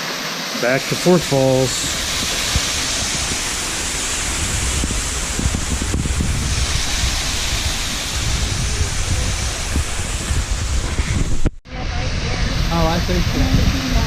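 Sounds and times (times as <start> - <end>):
waterfall rushing: 0.0 - 14.0
wind buffeting microphone: 1.3 - 14.0.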